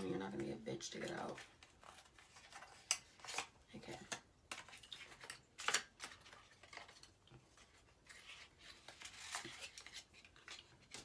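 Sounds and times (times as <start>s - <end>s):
plastic packaging clicks and rustles: 0.0s - 11.0s.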